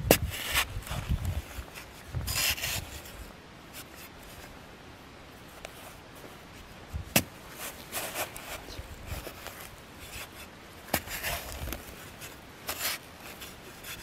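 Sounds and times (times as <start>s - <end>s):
hand spade scraping soil: 0.1s - 4.5s, 7.1s - 14.0s.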